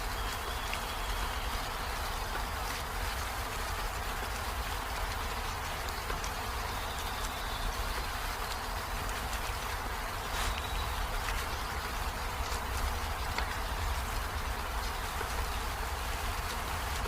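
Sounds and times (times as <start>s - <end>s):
rain on flowers and leaves: 0.0s - 17.0s.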